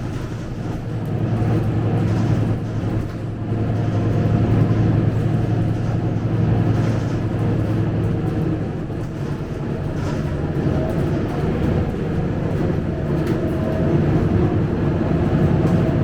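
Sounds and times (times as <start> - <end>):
bus engine hum: 0.0 - 16.0
road and cabin rumble: 0.0 - 16.0.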